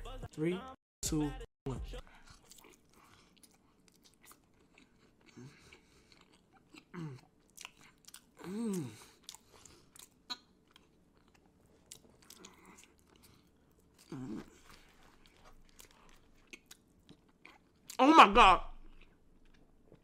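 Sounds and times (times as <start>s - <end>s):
man chewing quietly: 2.1s - 18.0s, 18.8s - 20.0s.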